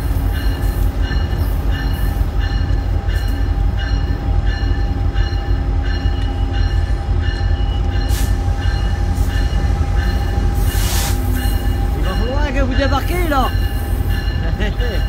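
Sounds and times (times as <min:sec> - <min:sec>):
diesel locomotive rumbling: 0:00.0 - 0:15.0
high tone: 0:00.4 - 0:15.0.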